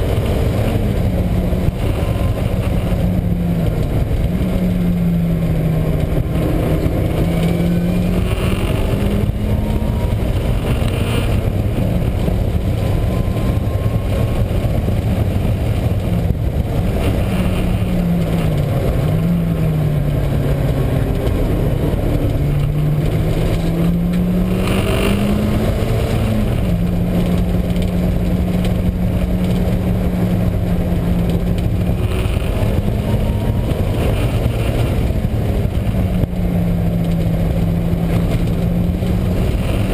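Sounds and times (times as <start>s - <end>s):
car engine running hard: 0.0s - 39.9s
low wheel bearing drone: 0.0s - 39.9s.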